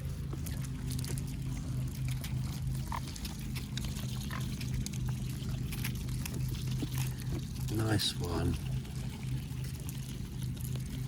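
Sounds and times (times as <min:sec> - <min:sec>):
low hum: 0:00.0 - 0:11.0
swan bills dabbling in water: 0:00.0 - 0:11.0.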